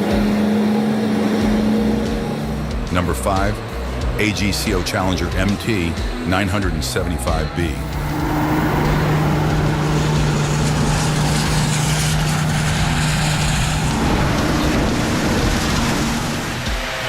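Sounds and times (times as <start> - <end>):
tractor engine rumbling: 0.0 - 5.9, 6.9 - 17.0.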